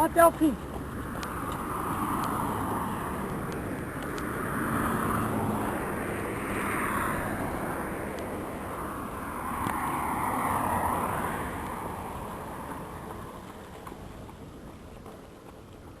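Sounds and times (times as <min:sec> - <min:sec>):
vehicle passing by: 0:00.0 - 0:15.4.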